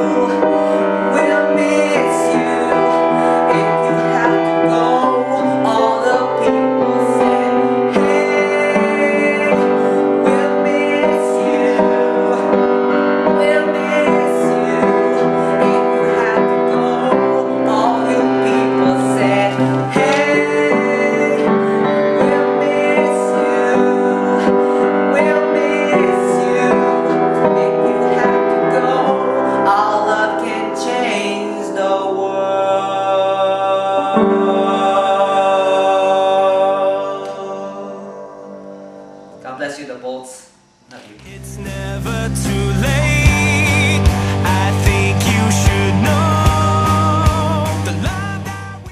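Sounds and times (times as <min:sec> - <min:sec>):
piano pop-rock ballad: 0:00.0 - 0:39.4, 0:41.6 - 0:48.9.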